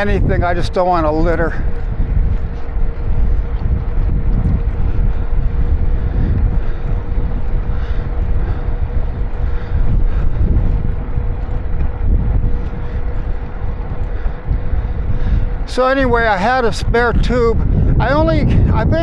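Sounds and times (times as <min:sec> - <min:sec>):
faint steady hum: 0:00.0 - 0:18.9
wind buffeting microphone: 0:00.0 - 0:19.0.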